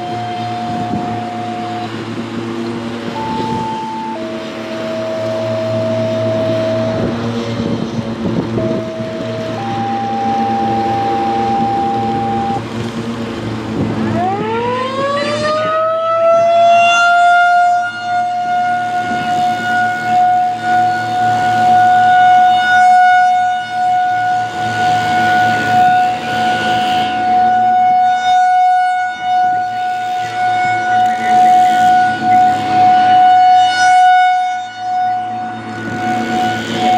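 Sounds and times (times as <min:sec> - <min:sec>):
rotating warning siren: 0:00.0 - 0:36.9.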